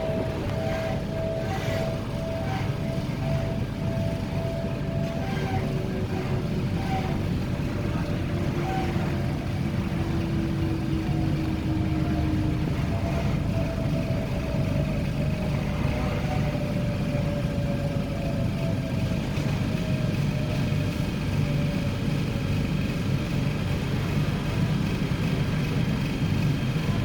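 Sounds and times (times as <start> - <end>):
thin motor whine: 0.0 - 27.0
train wheels rumbling on track: 0.0 - 27.0.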